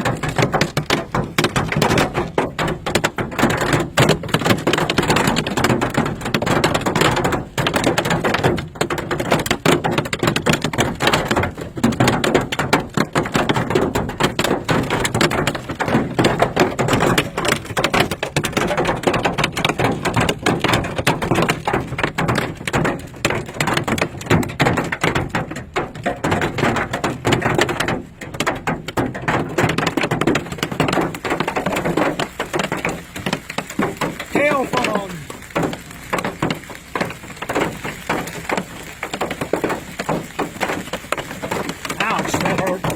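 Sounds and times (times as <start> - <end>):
hail hammering car roof: 0.0 - 42.9.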